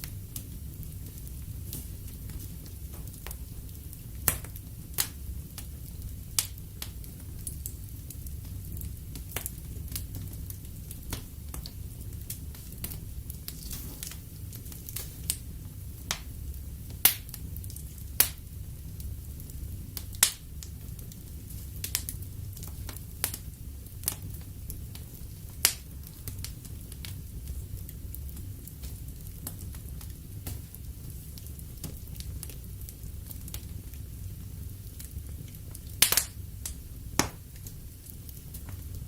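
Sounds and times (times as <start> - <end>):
burning logs crackling and popping: 0.0 - 39.0
low rumble of flames: 0.0 - 39.0.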